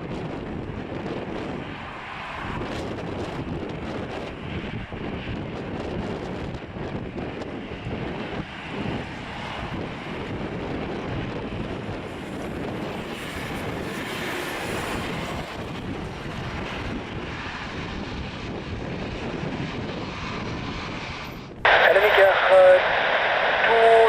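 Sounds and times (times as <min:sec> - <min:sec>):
jet engines running: 0:00.0 - 0:24.0
wind buffeting microphone: 0:00.0 - 0:24.0.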